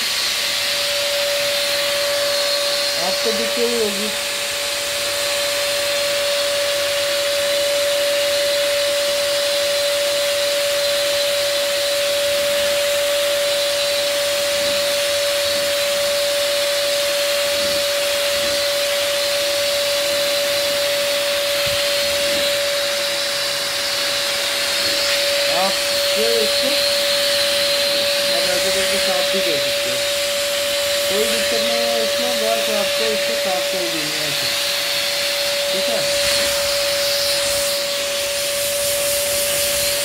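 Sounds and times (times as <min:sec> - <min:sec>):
electric blower whining: 0:00.0 - 0:40.0.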